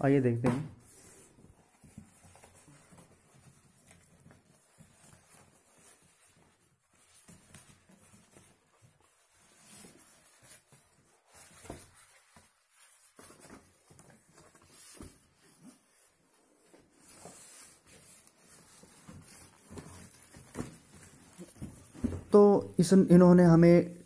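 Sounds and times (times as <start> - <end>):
cardboard and plastic rustling: 0.8 - 23.2.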